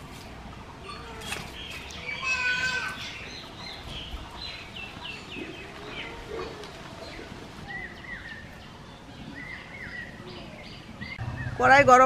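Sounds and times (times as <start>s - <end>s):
birds calling and chirping: 0.0s - 12.0s.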